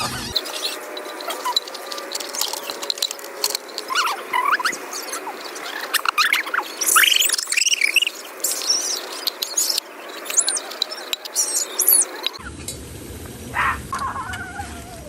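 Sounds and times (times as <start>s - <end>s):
birds chirping and whistling: 0.0s - 12.5s.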